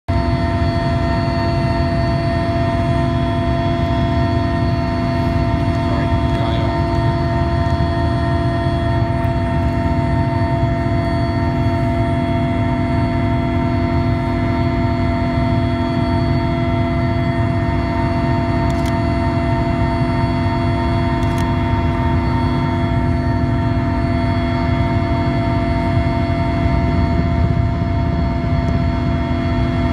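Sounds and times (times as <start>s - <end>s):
helicopter cabin drone: 0.1s - 29.9s.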